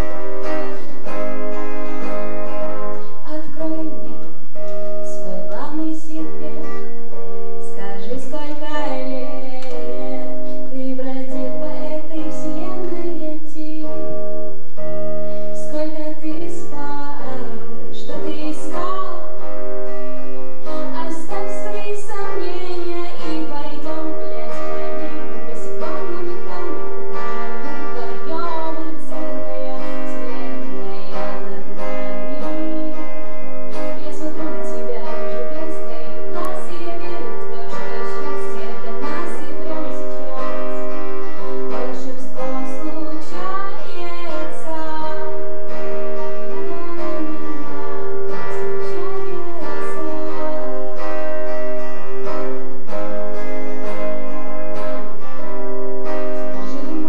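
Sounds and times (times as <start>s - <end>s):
guitar accompaniment: 0.0s - 57.0s.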